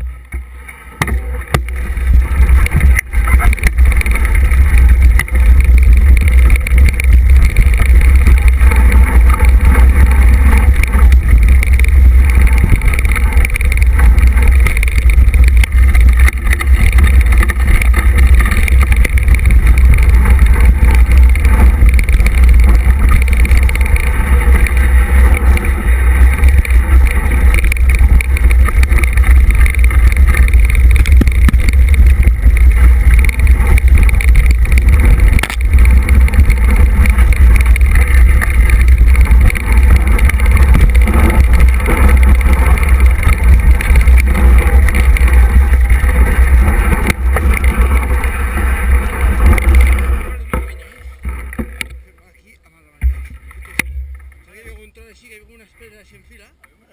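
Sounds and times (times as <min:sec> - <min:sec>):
bike rattling on trail: 0:00.0 - 0:56.9
wind buffeting microphone: 0:01.5 - 0:50.4.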